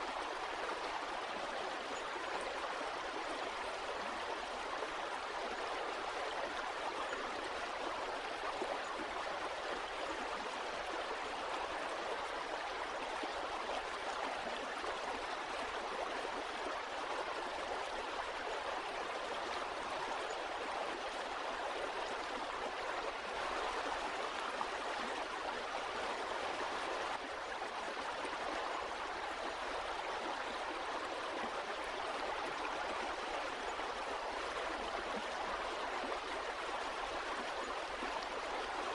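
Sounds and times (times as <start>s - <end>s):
stream water over rocks: 0.0s - 38.9s.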